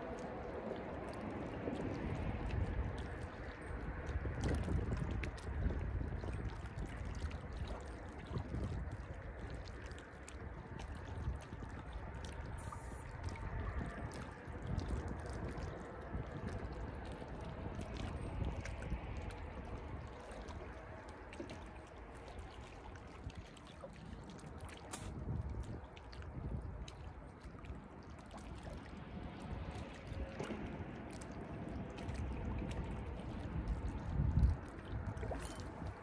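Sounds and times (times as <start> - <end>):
water lapping and gurgling: 0.0 - 36.0.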